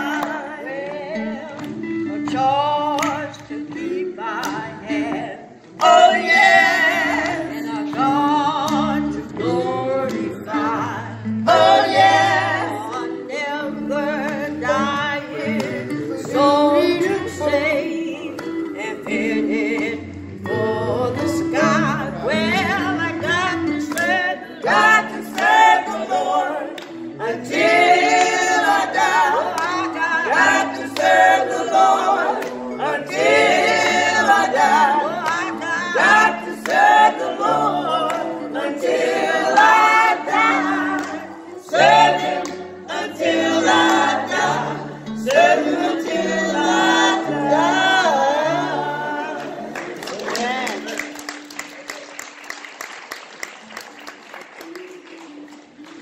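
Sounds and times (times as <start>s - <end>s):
group singing together: 0.0s - 50.8s.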